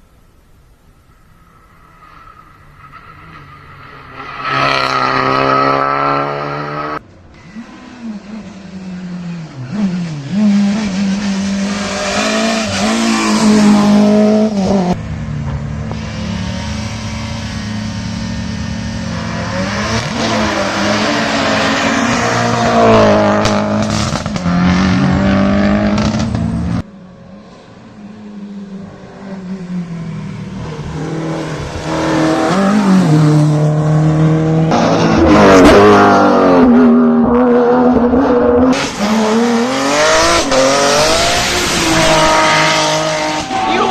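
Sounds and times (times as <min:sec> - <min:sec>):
race car engines revving past: 0:02.1 - 0:43.9.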